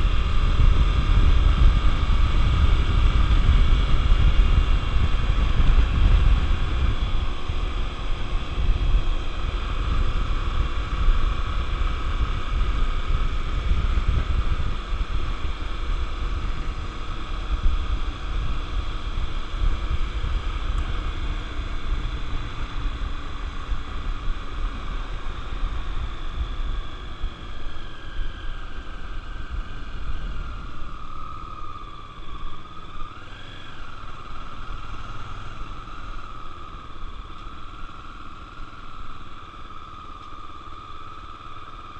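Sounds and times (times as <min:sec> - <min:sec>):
motorcycle engine running: 0:00.0 - 0:41.9
wind rumble on microphone: 0:00.0 - 0:41.9.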